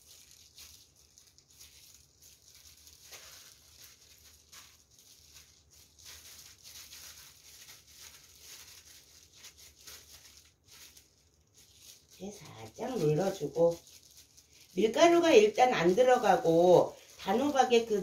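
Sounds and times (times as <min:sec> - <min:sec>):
plastic gloves rustling: 0:00.0 - 0:18.0
soft crackles: 0:00.0 - 0:18.0.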